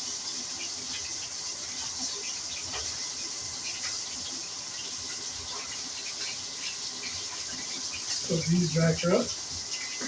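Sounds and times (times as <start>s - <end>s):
fish deep-frying sizzle: 0.0s - 10.0s.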